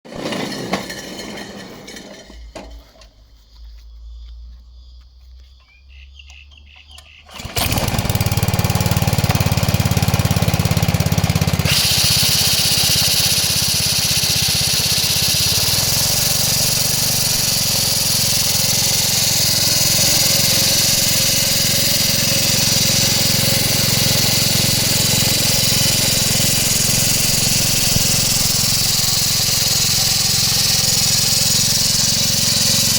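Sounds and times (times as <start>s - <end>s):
mower engine running: 0.1s - 3.1s, 7.0s - 32.9s.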